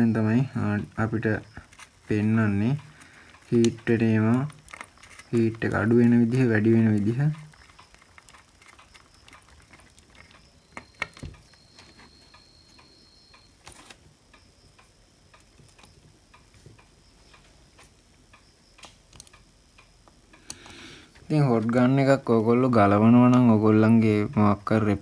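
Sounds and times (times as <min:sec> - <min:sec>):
small parts clicking and tapping: 0:00.0 - 0:22.0.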